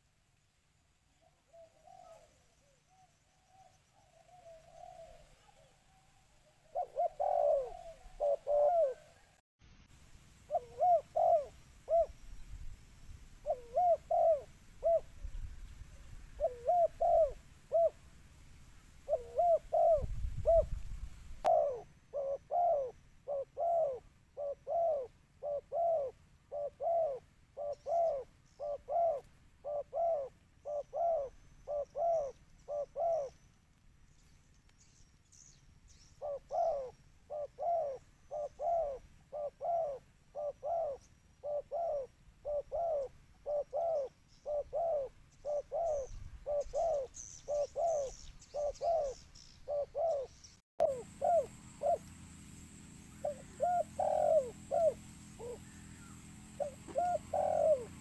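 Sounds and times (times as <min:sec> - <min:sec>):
dove cooing: 0:01.2 - 0:09.4, 0:10.5 - 0:12.2, 0:13.4 - 0:15.3, 0:15.9 - 0:18.0, 0:19.0 - 0:20.8, 0:21.4 - 0:33.4, 0:36.2 - 0:52.2, 0:53.1 - 0:58.0.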